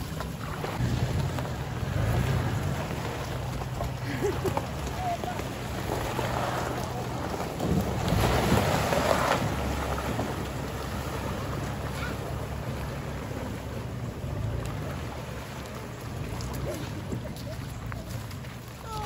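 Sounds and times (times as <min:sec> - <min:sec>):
car engine low hum: 0:00.0 - 0:19.0
water splashing around tyres: 0:00.0 - 0:19.0.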